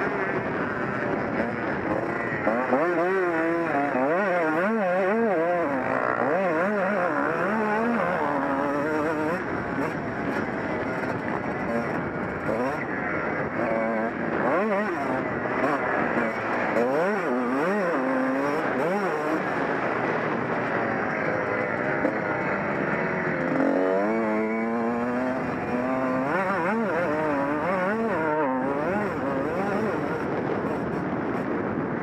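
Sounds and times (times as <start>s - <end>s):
motocross engine revving: 0.0s - 31.8s.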